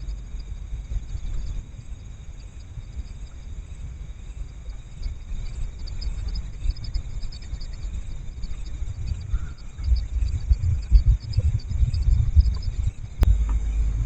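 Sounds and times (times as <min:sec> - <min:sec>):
crickets chirping: 0:00.0 - 0:14.0
uneven low rumble: 0:00.0 - 0:14.0.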